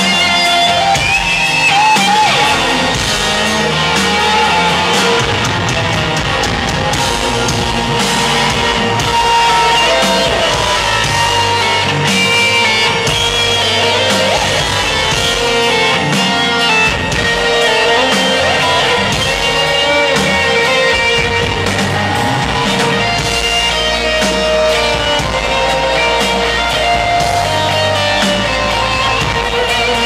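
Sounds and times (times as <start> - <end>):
electric guitar lead with bent notes: 0.0 - 30.0
live rock band playing ballad: 0.0 - 30.0.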